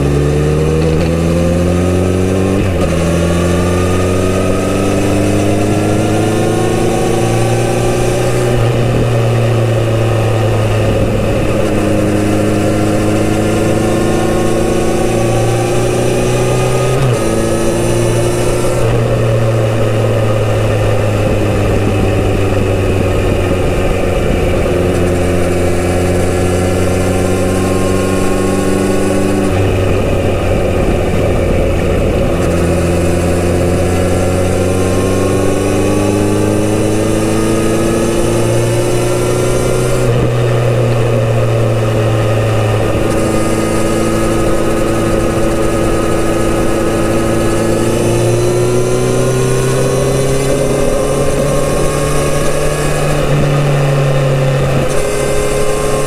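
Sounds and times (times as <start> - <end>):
motorcycle engine revving: 0.0 - 56.0
steady rush of noise: 6.0 - 56.0.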